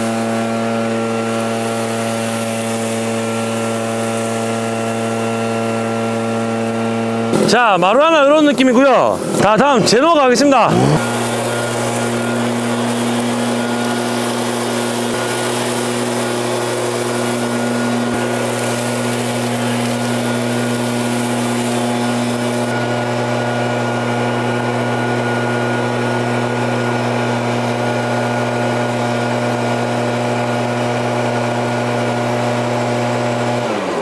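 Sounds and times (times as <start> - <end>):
leaf blower engine droning: 0.0 - 34.0.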